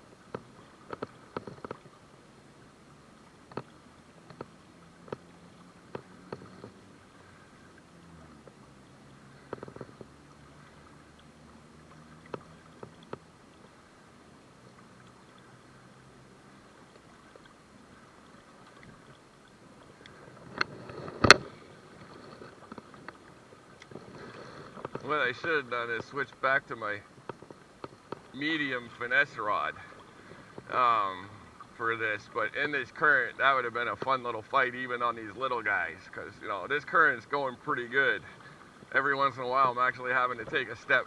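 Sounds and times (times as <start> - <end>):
river current flowing: 0.0 - 41.0.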